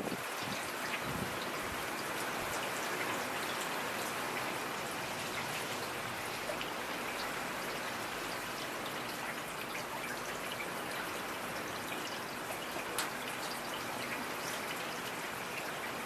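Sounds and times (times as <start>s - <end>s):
rain pattering on hard surface: 0.0s - 16.0s.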